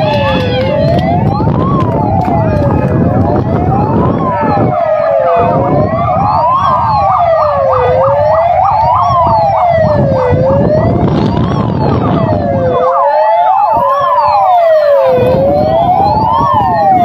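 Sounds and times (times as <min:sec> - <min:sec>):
fire engine sirens wailing: 0:00.0 - 0:17.0.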